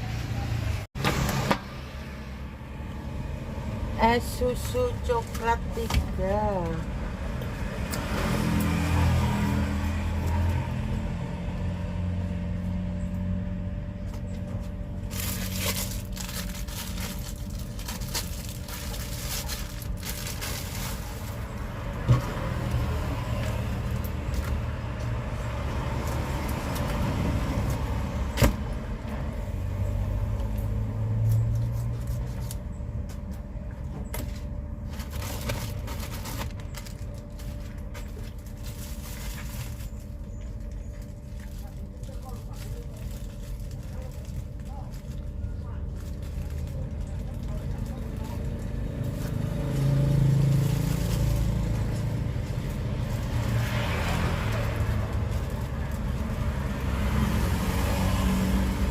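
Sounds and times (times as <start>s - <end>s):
vehicle engines rumbling: 0.0s - 58.9s.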